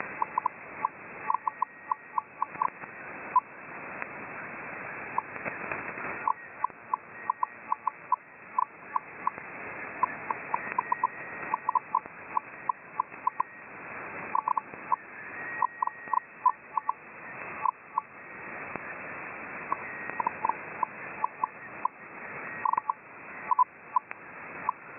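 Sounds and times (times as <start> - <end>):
radio static hiss: 0.0 - 24.9.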